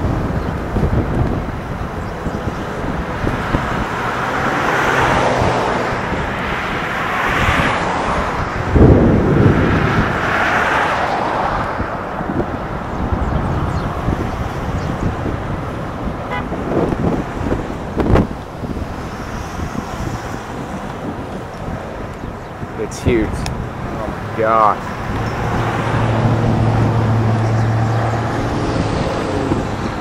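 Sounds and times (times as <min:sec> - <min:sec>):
cars passing on wet road: 0:00.0 - 0:30.0
wind gusting on microphone: 0:00.0 - 0:30.0.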